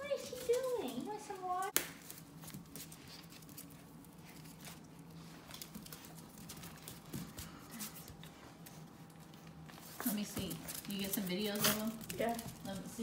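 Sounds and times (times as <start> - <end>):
puppy paws pattering on floor: 0.0 - 13.0.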